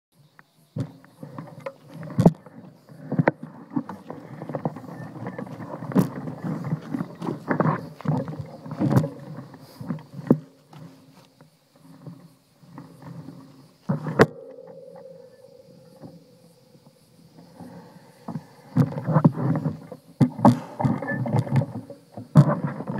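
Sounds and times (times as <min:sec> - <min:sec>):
bike tyres rolling on dirt: 0:00.7 - 0:22.9
bike knocking and rattling: 0:00.8 - 0:22.9.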